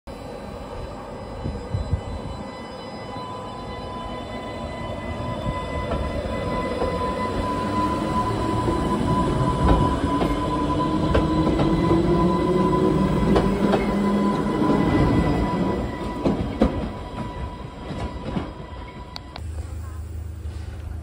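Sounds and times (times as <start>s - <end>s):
electric train passing: 0.1s - 21.0s.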